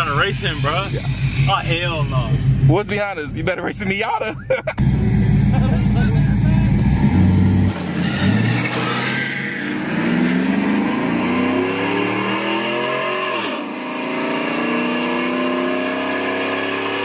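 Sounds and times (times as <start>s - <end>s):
engine accelerating at full throttle: 0.0s - 17.0s.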